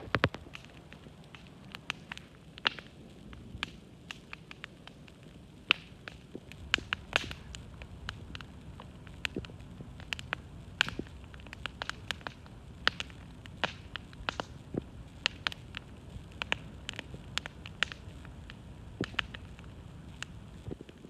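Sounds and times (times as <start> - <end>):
campfire logs crackling: 0.0 - 21.0
low rumble of flames: 0.0 - 21.0.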